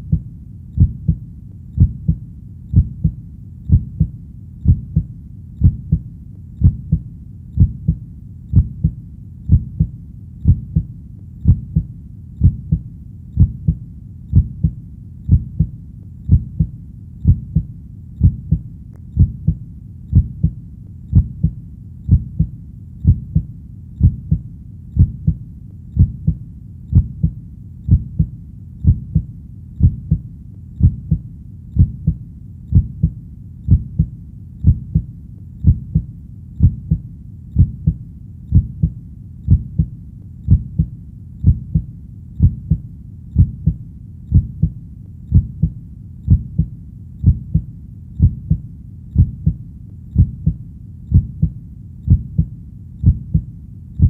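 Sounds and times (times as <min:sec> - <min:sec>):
heartbeat thumps: 0:00.0 - 0:54.0.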